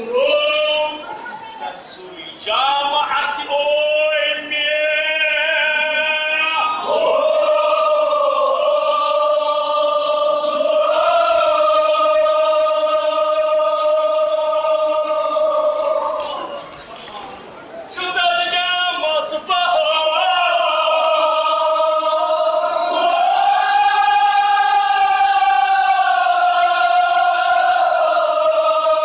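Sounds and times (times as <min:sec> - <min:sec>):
male voices chanting an elegy: 0:00.0 - 0:16.6, 0:17.9 - 0:29.0.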